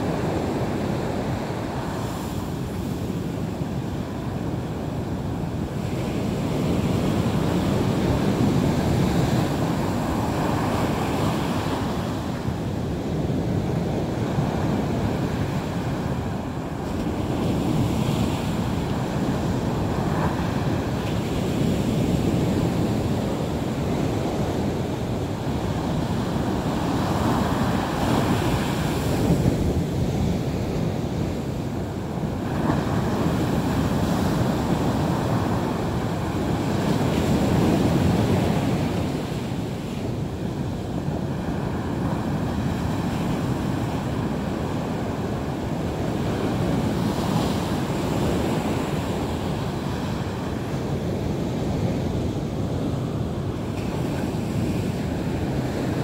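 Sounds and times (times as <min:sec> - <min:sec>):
sea waves washing ashore: 0:00.0 - 0:56.0
wind buffeting microphone: 0:00.0 - 0:56.0.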